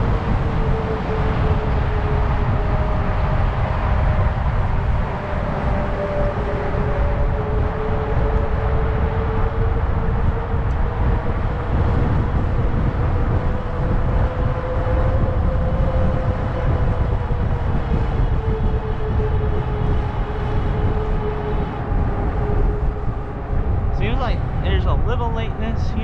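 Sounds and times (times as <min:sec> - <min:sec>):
electric bike whine: 0:00.0 - 0:24.7
wind buffeting microphone: 0:00.0 - 0:26.0.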